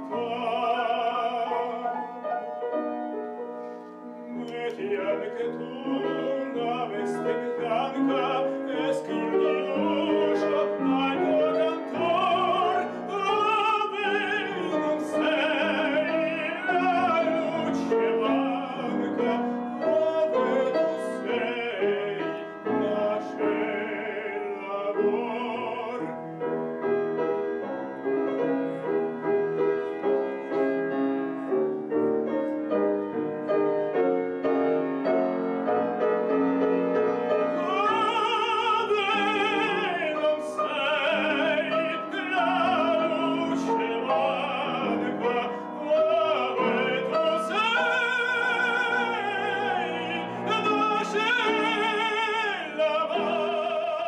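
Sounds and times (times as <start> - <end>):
grand piano: 0.0 - 54.0
man singing classical: 0.0 - 54.0.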